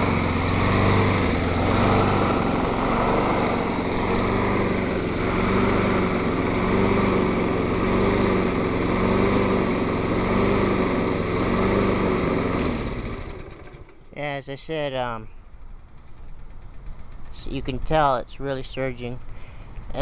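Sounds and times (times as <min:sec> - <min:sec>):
lawn mower engine surging: 0:00.0 - 0:20.0.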